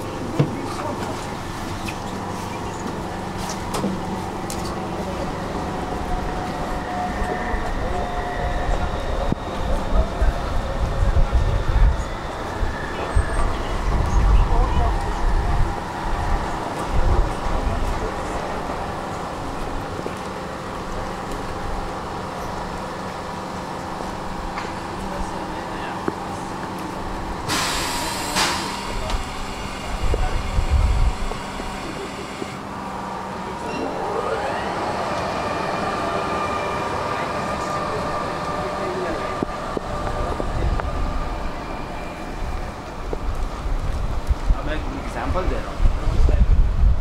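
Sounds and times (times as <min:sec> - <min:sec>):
street noise: 0:00.0 - 0:47.0
tram electrical hum: 0:00.0 - 0:47.0.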